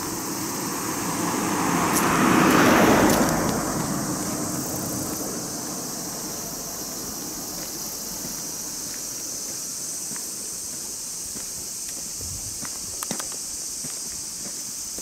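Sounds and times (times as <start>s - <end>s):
passing vehicle: 0.0s - 12.2s
high-pitched insects chorus: 0.0s - 15.0s.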